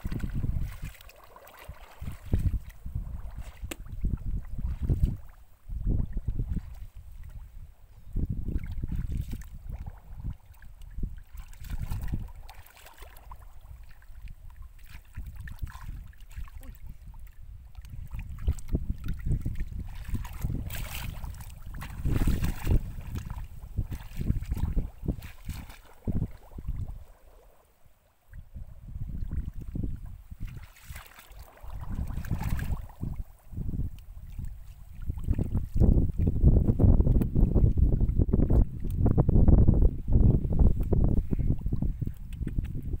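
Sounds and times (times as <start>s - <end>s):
splashing through shallow water: 0.0s - 43.0s.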